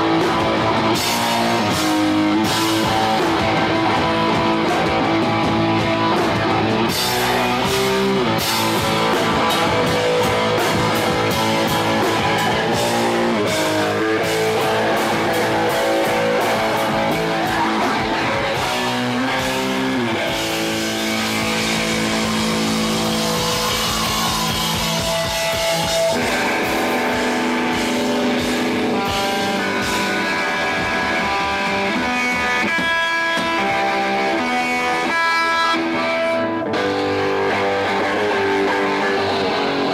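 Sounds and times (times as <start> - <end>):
drums: 0.0 - 39.9
electric guitar: 0.0 - 39.9.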